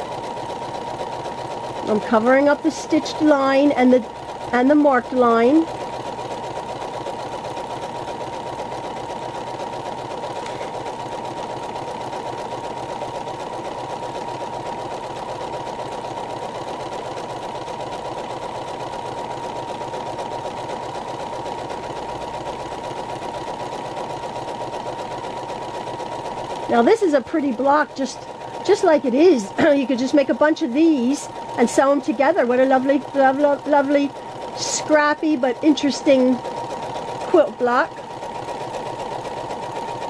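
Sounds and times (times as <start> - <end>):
sewing machine running: 0.0 - 40.0.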